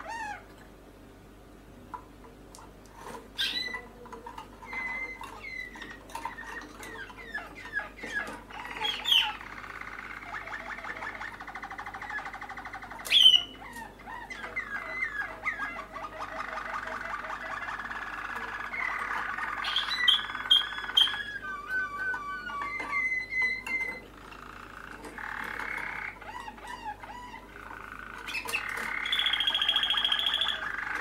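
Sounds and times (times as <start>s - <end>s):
canaries chirping and trilling: 0.0s - 0.5s, 2.9s - 31.0s.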